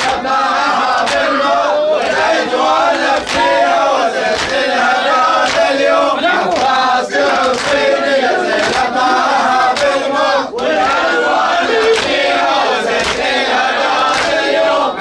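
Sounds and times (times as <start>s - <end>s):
crowd of men chanting: 0.0s - 15.0s.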